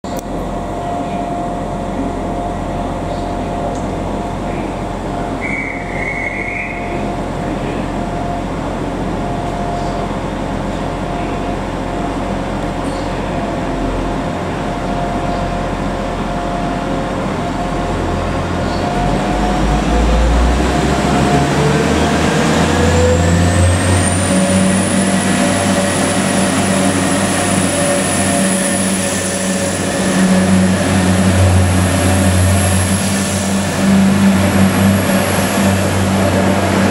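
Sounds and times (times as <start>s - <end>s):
diesel train engine: 0.0s - 36.9s
rising whine of train: 0.0s - 36.9s.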